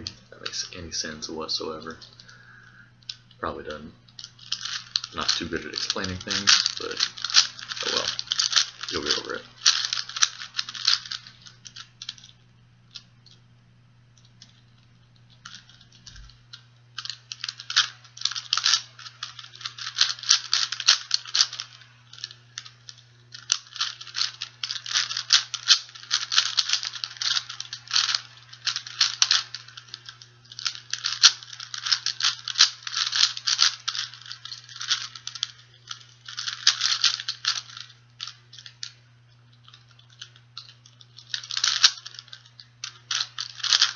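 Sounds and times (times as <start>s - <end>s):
puzzle cube clicking: 0.0s - 13.4s, 14.2s - 39.0s, 39.6s - 43.9s.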